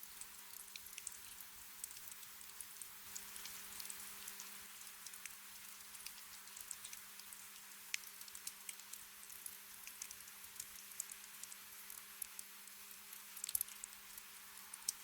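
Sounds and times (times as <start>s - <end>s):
light rain hiss: 0.0s - 15.0s
raindrop ticks: 0.1s - 15.0s.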